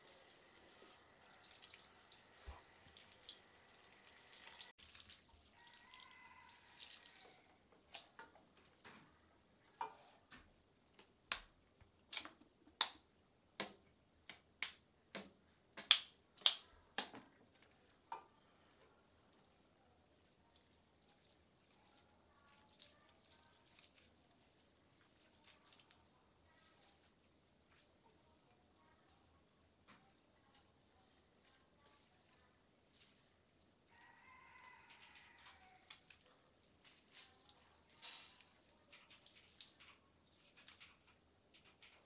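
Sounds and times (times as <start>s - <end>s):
faint running water: 0.0s - 10.5s, 18.0s - 42.0s.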